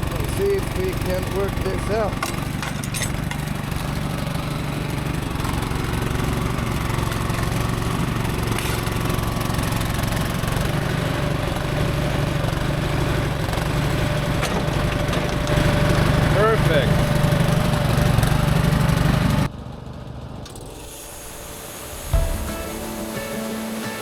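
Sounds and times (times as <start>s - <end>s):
bandsaw mill engine running: 0.0s - 24.0s.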